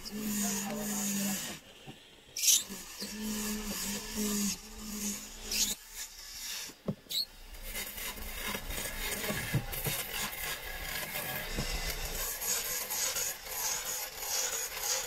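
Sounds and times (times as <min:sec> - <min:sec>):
hand tool scraping wood: 0:00.0 - 0:01.6, 0:02.6 - 0:15.0.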